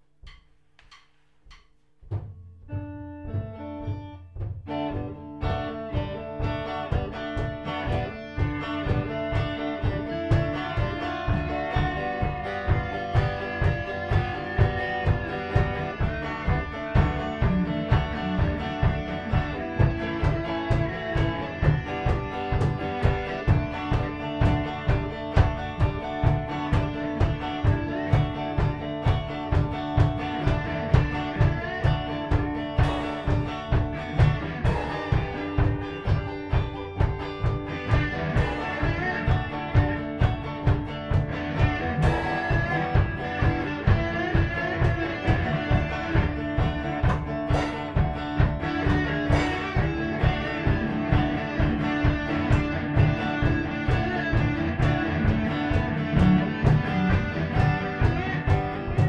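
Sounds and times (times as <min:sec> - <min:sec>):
drum kit beat: 0:00.0 - 0:59.0
electric guitars playing rock: 0:02.6 - 0:59.0.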